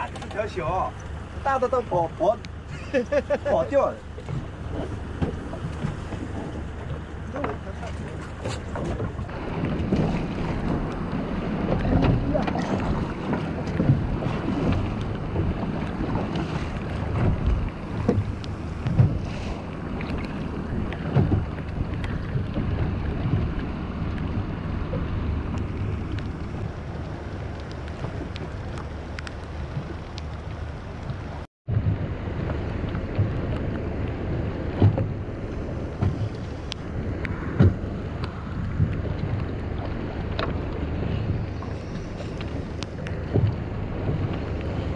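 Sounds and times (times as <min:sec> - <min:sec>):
water sloshing against hull: 0:00.0 - 0:44.9
wind buffeting microphone: 0:00.0 - 0:44.9.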